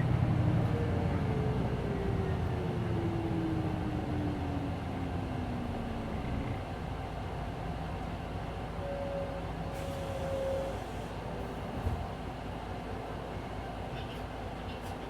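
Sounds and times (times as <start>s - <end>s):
bus drivetrain whine: 0.0s - 15.0s.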